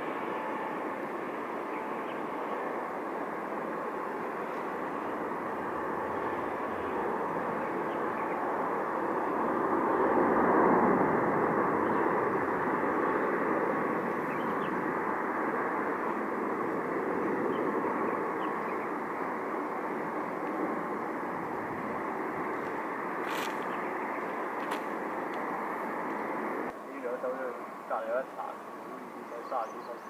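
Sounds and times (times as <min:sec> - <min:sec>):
jet engines roaring past: 0:00.0 - 0:30.0.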